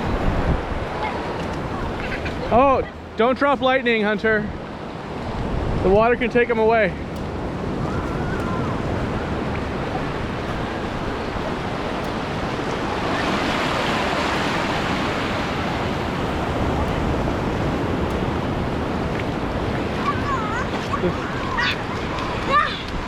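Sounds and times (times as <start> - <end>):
wind rumble on microphone: 0.0 - 3.2, 4.4 - 23.0
wave breaking: 0.0 - 23.0
waves washing on shore: 0.0 - 23.0.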